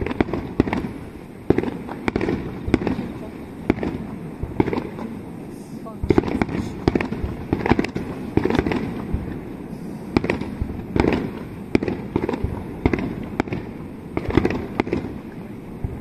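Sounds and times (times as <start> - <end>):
firework shells bursting: 0.0 - 16.0.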